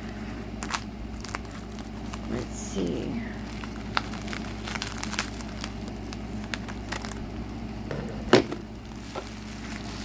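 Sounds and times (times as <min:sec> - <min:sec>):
packaging crinkling: 0:00.6 - 0:07.6, 0:08.6 - 0:10.0.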